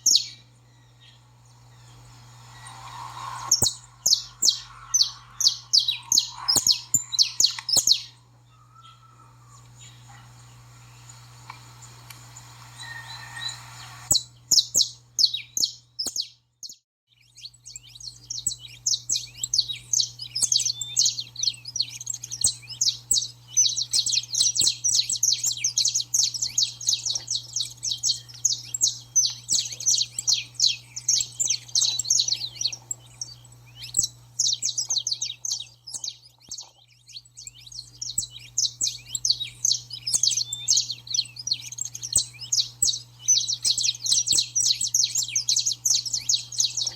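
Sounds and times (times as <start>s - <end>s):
finch chattering song: 0.0s - 16.4s, 17.1s - 46.9s.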